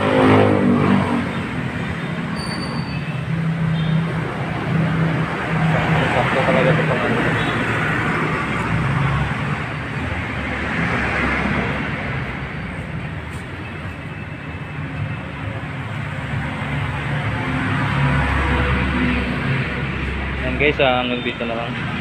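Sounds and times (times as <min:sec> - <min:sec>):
background traffic noise: 0:00.0 - 0:22.0.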